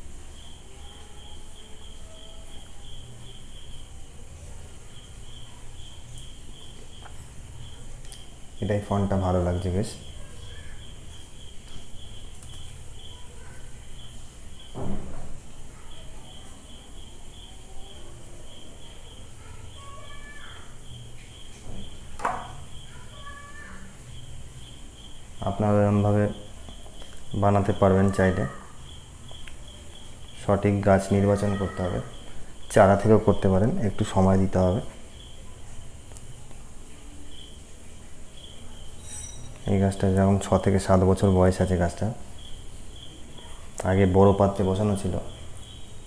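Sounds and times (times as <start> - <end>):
cricket chirping: 0.0 - 46.0.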